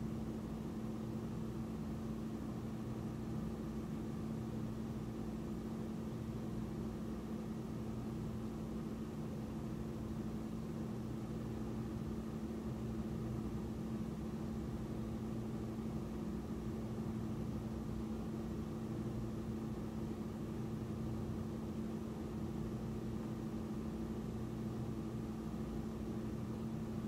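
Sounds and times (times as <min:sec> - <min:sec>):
low hum with light hiss: 0:00.0 - 0:27.0.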